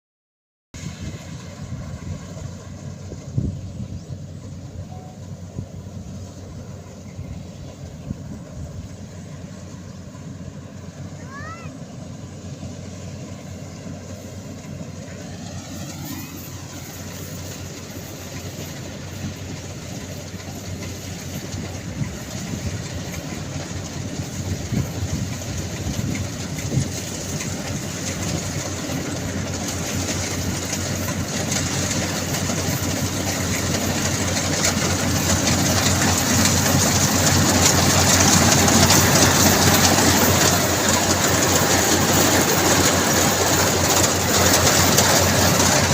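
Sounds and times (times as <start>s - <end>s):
heavy farm machinery engine: 0.8s - 45.9s.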